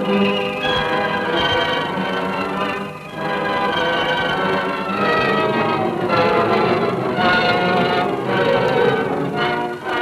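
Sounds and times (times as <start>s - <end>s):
orchestral music sustained chords: 0.0s - 10.0s.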